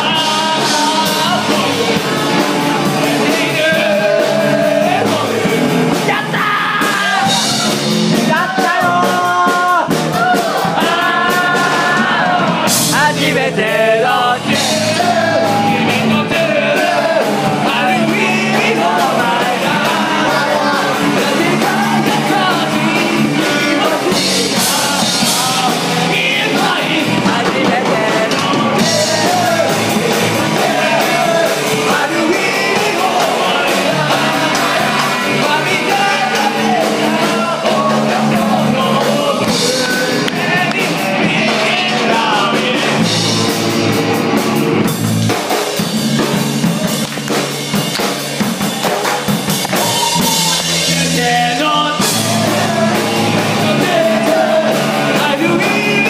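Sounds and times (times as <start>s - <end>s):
person singing: 0.0s - 43.8s, 49.7s - 56.0s
drum kit: 0.0s - 56.0s
electric guitar: 0.0s - 56.0s.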